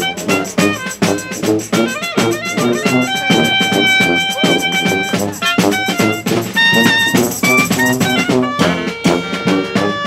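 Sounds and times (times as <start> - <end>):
brass band playing: 0.0 - 10.0
high horn note: 0.0 - 10.0
steady drumbeat: 0.0 - 10.0.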